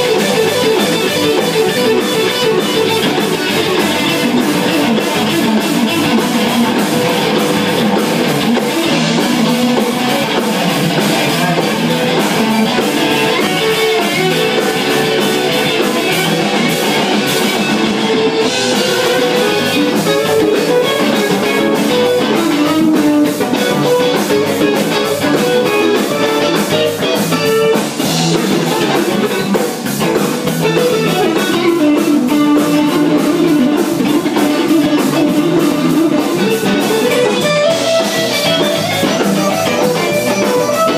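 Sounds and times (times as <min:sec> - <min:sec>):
drum kit beat: 0:00.0 - 0:40.9
electric guitar playing: 0:00.0 - 0:40.9.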